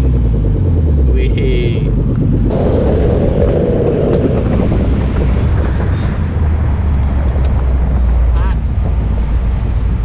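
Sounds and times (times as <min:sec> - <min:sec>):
car engine idling: 0:00.0 - 0:10.0
wind noise on microphone: 0:01.8 - 0:10.0.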